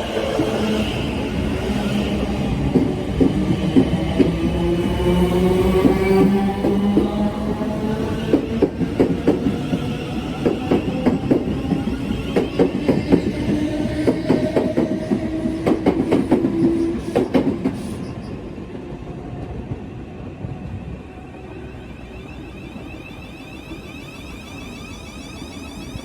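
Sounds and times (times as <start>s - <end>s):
train passing: 0.0s - 26.0s.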